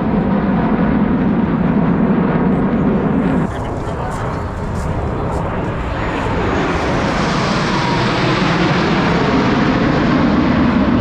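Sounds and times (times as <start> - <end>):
jet flying over: 0.0 - 11.0.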